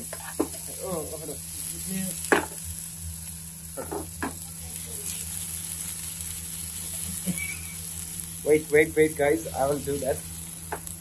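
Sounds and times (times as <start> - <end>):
kitchen fan humming: 0.0 - 11.0
onions sizzling in oil: 0.0 - 11.0.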